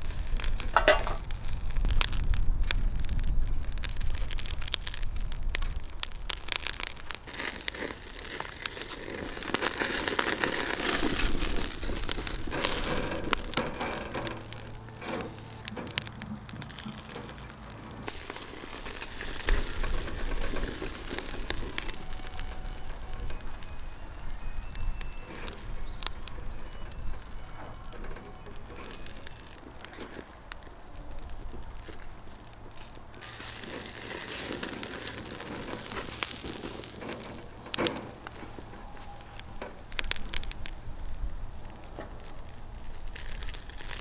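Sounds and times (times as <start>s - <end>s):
fat crackling on coals: 0.0s - 44.0s
fish sizzling on a grill: 0.0s - 44.0s.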